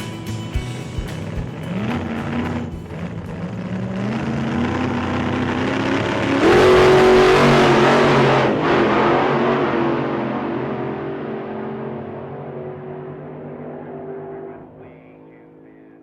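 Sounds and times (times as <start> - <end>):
racing car engine revving: 0.8 - 15.9.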